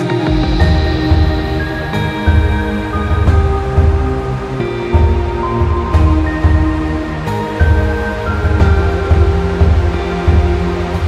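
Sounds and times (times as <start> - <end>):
synth music with low beat: 0.0 - 11.0.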